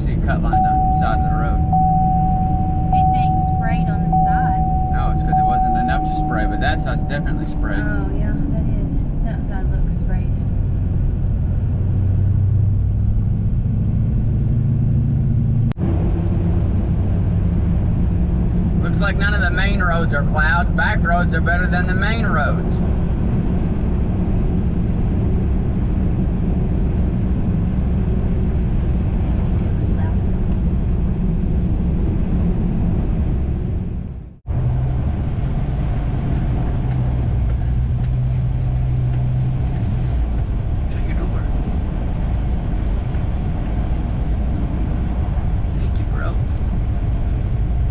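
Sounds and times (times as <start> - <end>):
diesel engine cruising: 0.0 - 47.9
road noise: 0.0 - 47.9.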